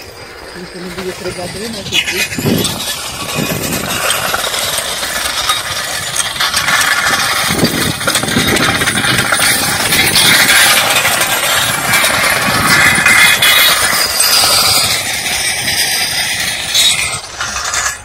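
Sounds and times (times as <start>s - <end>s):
machine clattering: 0.0s - 18.0s.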